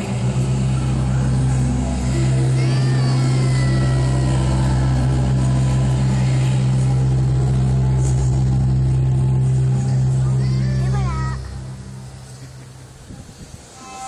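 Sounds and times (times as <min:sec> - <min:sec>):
low-pitched drone: 0:00.0 - 0:14.0.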